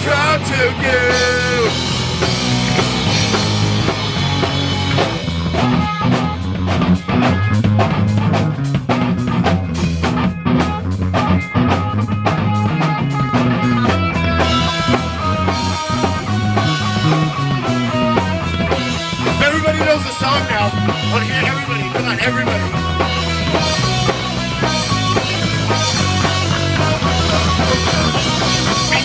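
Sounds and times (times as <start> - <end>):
drum kit beats: 0.0 - 29.0
guitar: 0.0 - 29.0.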